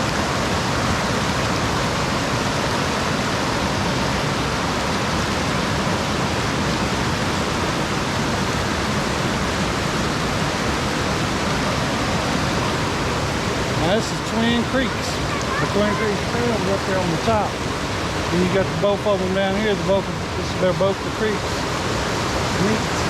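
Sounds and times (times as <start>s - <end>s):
creeks rushing over rocks: 4.4s - 23.0s.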